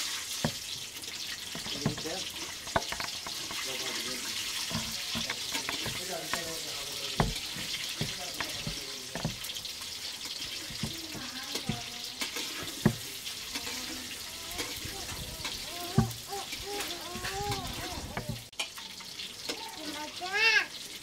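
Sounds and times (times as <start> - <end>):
spatula scraping a metal pan: 0.0 - 18.5
eggs sizzling in hot oil: 0.0 - 21.0.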